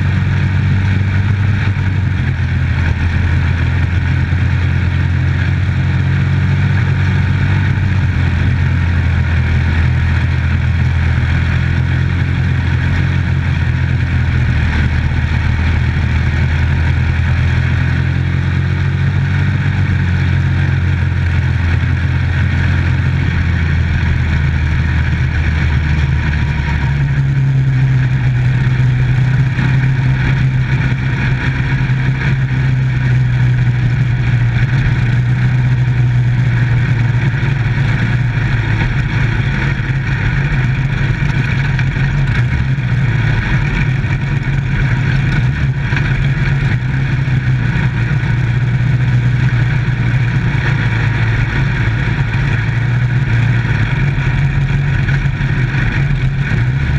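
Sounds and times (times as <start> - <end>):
race car engine running hard: 0.0 - 56.9.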